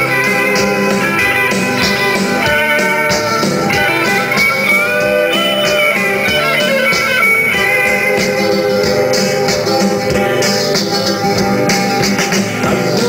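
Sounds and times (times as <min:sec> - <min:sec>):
instrumental song with guitar: 0:00.0 - 0:13.0.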